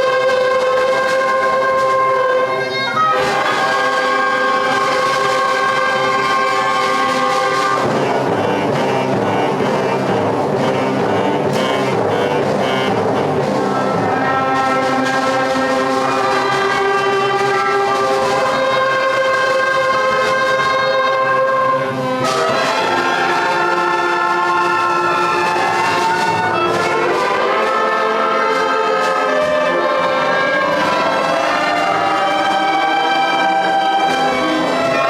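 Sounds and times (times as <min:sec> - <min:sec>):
concert band playing: 0:00.0 - 0:35.0.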